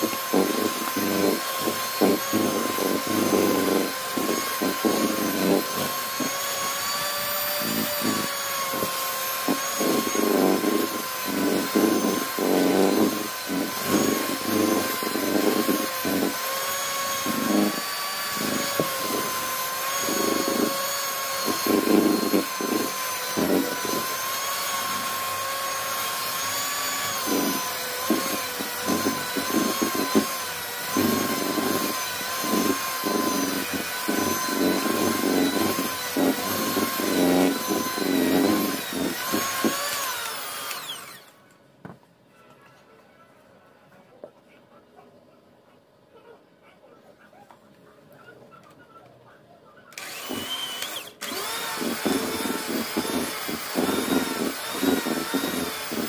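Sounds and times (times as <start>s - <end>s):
beaters churning dough: 0.0s - 41.2s, 50.0s - 56.0s
electric hand mixer whining: 0.0s - 41.4s, 49.9s - 56.0s.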